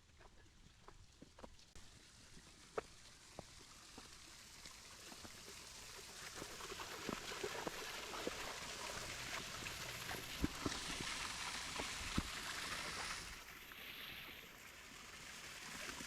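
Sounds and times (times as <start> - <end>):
running water rushing: 0.1 - 16.0.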